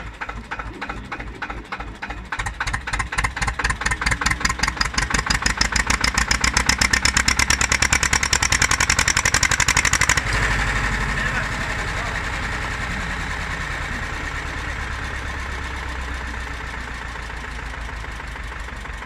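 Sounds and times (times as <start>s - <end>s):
diesel tractor engine chugging: 0.0s - 19.0s.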